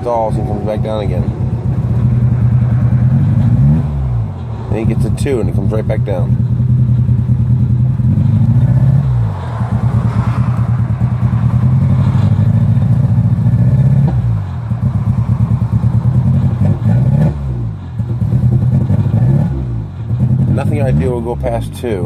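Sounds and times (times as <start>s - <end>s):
car engine running rough: 0.0s - 22.0s.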